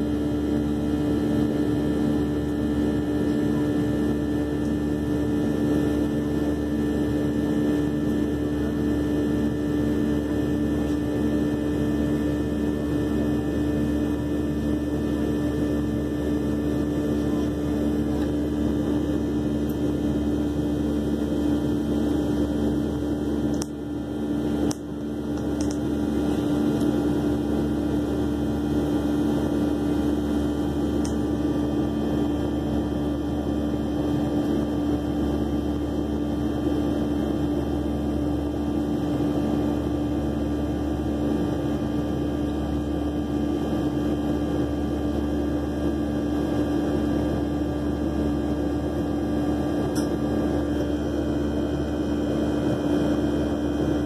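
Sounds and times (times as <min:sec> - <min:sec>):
jet engine cabin drone: 0:00.0 - 0:54.0.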